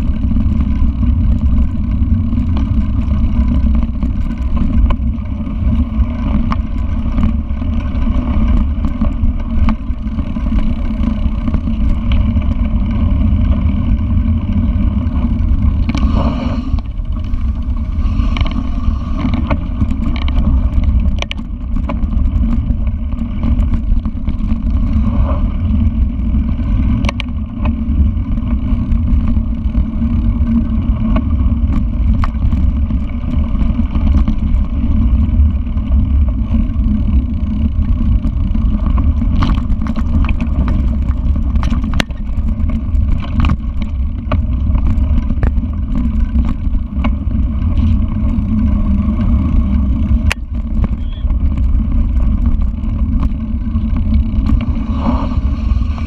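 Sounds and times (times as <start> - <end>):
bike rattling over bumps: 0.0 - 56.0
wind and tyre rumble: 0.0 - 56.0.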